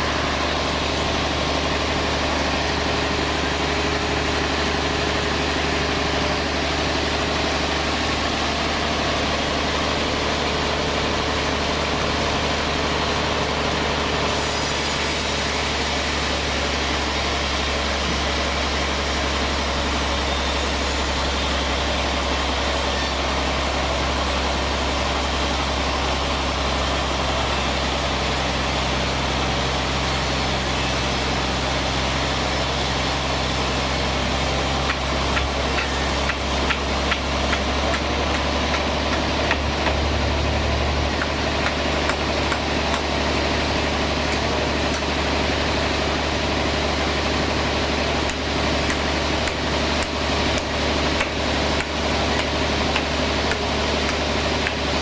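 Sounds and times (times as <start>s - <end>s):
band saw droning: 0.0s - 55.0s.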